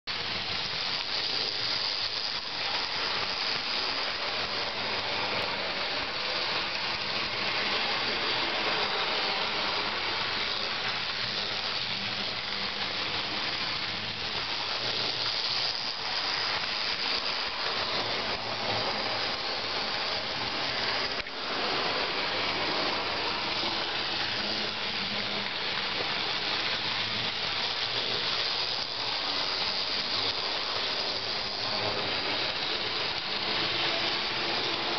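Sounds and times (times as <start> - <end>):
model train motor whirring: 0.1 - 34.9.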